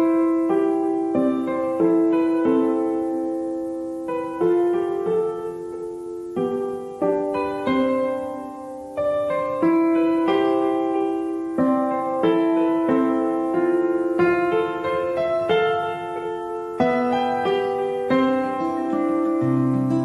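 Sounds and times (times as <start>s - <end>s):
slow gentle piano chords: 0.0s - 20.0s.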